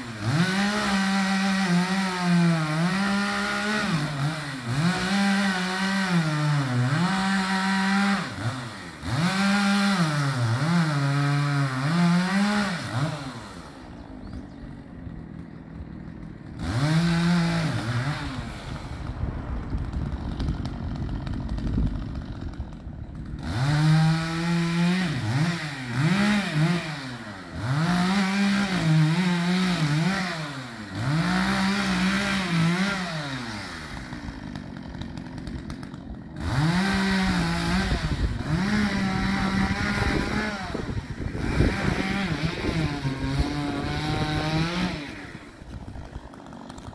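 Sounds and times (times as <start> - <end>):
chainsaw revving and cutting: 0.0 - 46.9.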